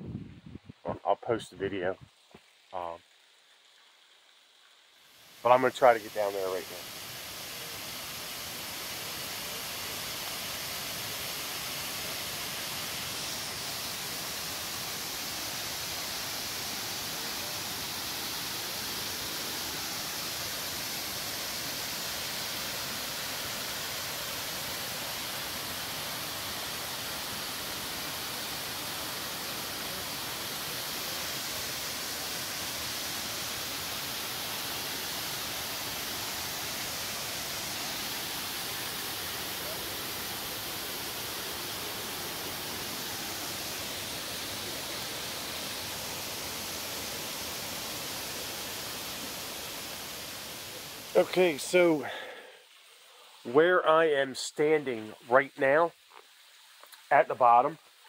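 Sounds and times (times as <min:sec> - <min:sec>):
waterfall hiss: 0:00.0 - 0:58.0.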